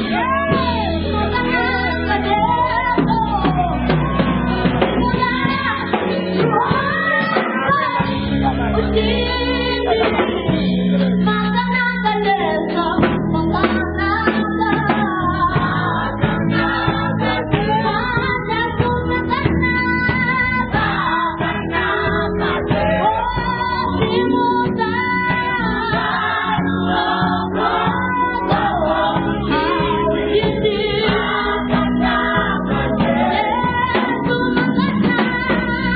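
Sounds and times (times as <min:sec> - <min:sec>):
choir singing: 0:00.0 - 0:10.4, 0:15.0 - 0:18.8, 0:20.3 - 0:35.9
live band playing: 0:00.0 - 0:35.9.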